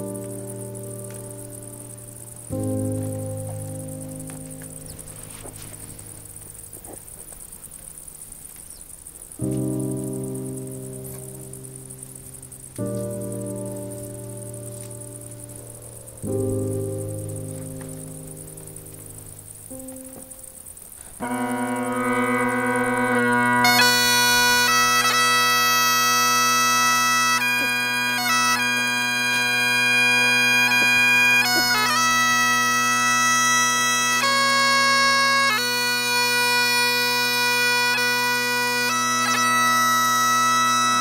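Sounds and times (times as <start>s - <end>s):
bagpipes playing slow melody: 0.0s - 7.3s, 9.4s - 20.3s, 21.2s - 41.0s.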